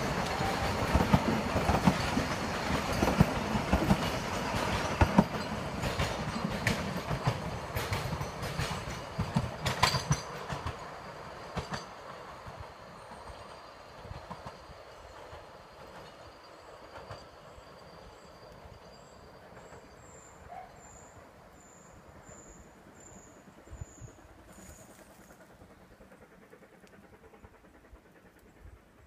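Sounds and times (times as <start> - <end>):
train wheels clicking over rail joints: 0.0 - 20.3, 23.1 - 29.0.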